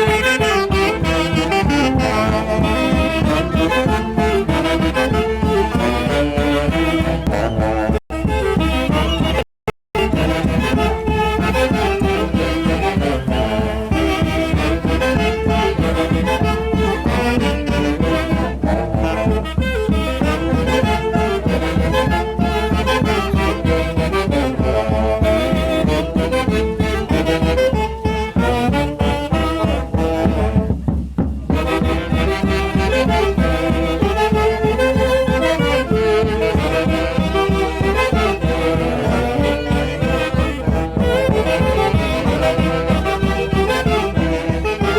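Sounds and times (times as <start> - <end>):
brass band playing: 0.0 - 9.4, 10.0 - 44.9.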